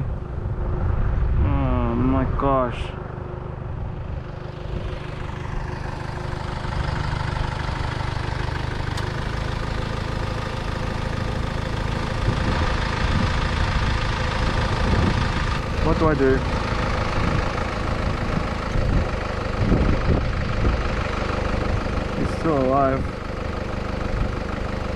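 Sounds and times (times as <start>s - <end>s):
vehicle engine idling: 0.0s - 24.9s.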